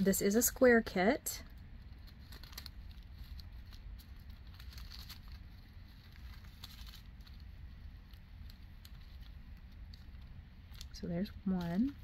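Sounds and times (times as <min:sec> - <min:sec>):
low steady hum: 0:00.0 - 0:12.0
plastic bags crinkling: 0:01.3 - 0:12.0.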